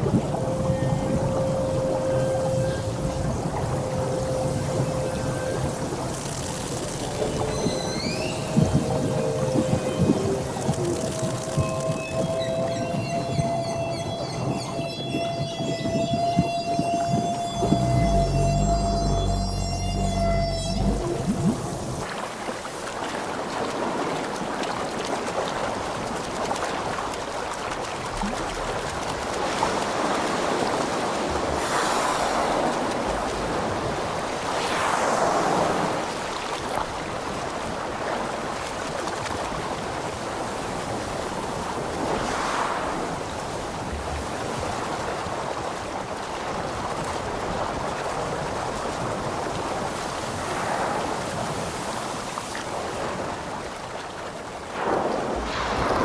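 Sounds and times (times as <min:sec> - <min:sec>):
ocean water rushing and splashing: 0:00.0 - 0:16.1, 0:20.7 - 0:56.0.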